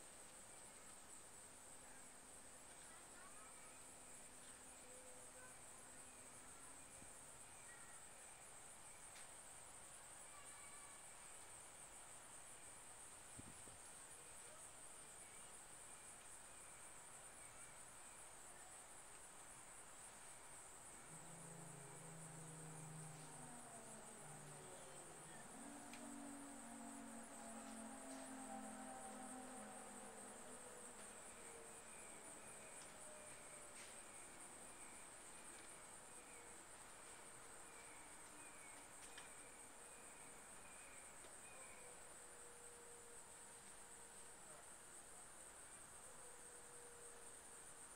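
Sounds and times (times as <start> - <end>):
faint low hum: 0.0 - 47.9
insect chorus: 0.0 - 47.9.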